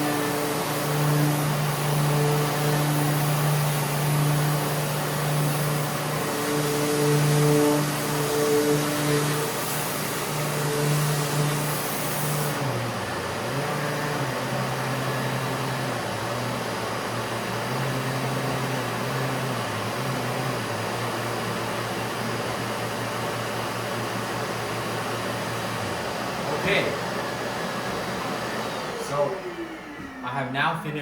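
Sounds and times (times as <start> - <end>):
sander and vacuum humming: 0.0 - 31.0.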